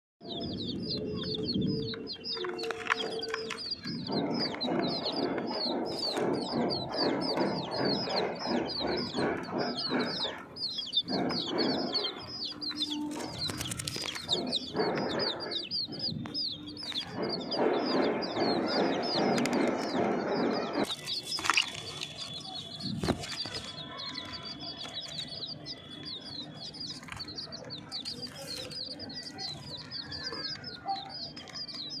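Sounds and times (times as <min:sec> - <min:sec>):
baby chicks peeping: 0:00.2 - 0:32.0.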